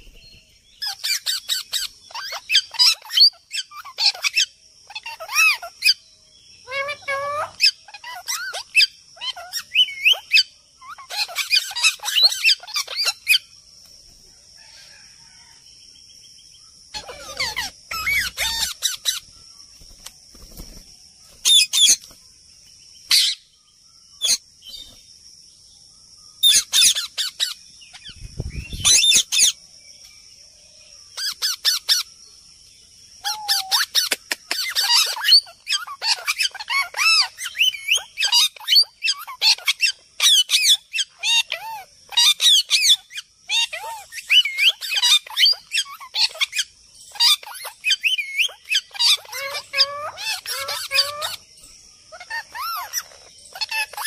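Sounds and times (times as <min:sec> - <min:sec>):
parakeets squawking and chattering: 0:00.0 - 0:06.0, 0:06.6 - 0:13.5, 0:16.8 - 0:22.2, 0:23.1 - 0:23.5, 0:24.2 - 0:24.9, 0:26.4 - 0:29.7, 0:31.2 - 0:32.1, 0:33.2 - 0:54.0.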